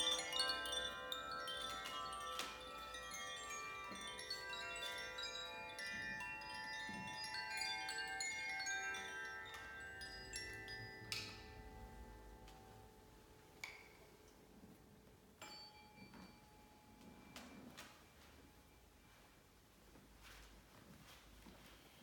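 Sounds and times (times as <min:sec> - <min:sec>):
metal chimes tinkling: 0:00.0 - 0:14.3, 0:15.4 - 0:19.3.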